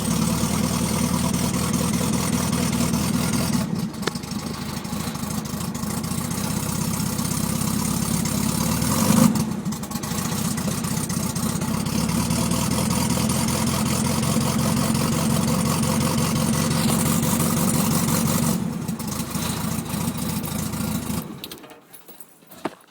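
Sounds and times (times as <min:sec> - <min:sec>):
car engine idling rough: 0:00.0 - 0:21.8.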